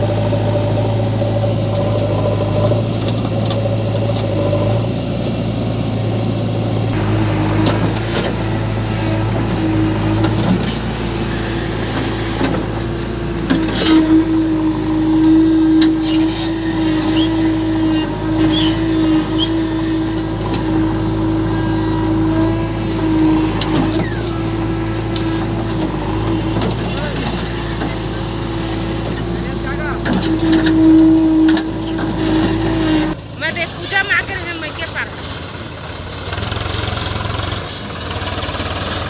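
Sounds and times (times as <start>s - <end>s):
diesel engines running: 0.0s - 39.0s.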